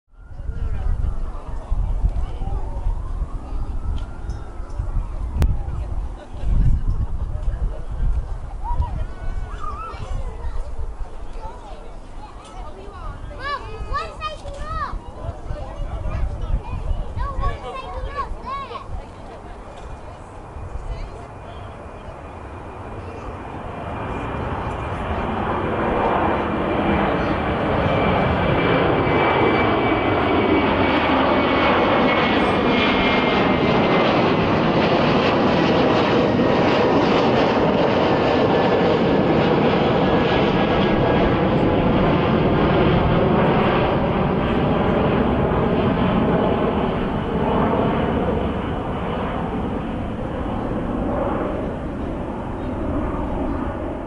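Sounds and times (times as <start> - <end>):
high jet engine whine: 0.1 - 54.0
jet airliner passing overhead: 0.1 - 54.0.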